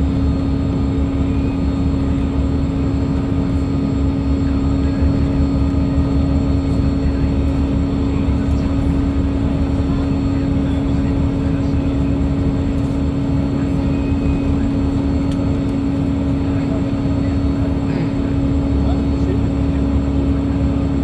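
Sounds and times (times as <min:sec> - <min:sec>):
boat turbine engines droning: 0:00.0 - 0:21.0.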